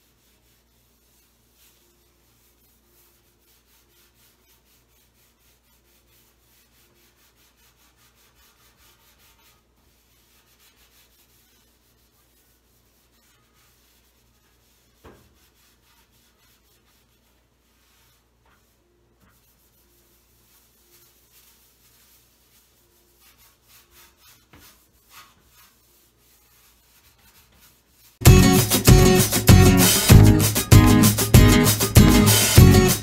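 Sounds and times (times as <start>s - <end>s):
cloth scrubbing a stovetop: 0.0s - 33.0s.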